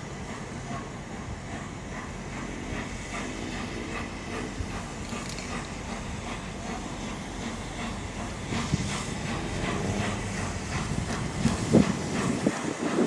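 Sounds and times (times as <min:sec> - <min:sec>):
steam hiss: 0:00.0 - 0:13.0
train wheels clicking on track: 0:00.0 - 0:13.0.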